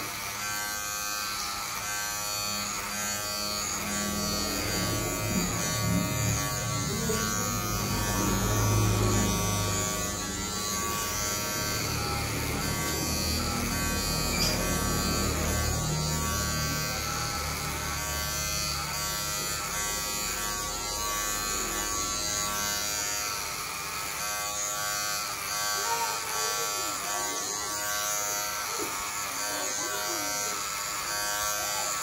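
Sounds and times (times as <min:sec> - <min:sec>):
electric hair clippers buzzing: 0:00.0 - 0:32.0.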